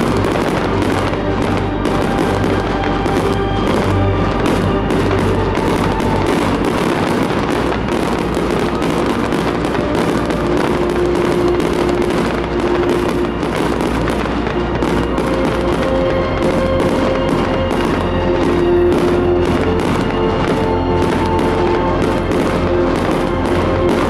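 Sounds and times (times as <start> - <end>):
fireworks bursting and crackling: 0.0 - 24.0
music with long held notes: 0.0 - 24.0.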